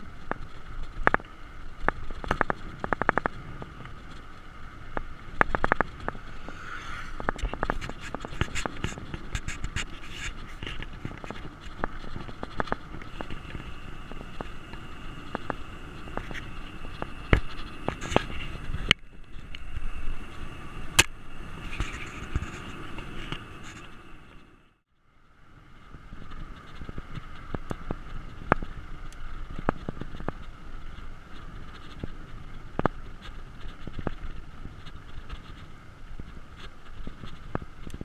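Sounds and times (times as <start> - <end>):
bike rattles and clicks: 0.0 - 24.5, 25.5 - 38.0
bike tyre rumble on asphalt: 0.0 - 38.0
wind hiss: 0.0 - 38.0.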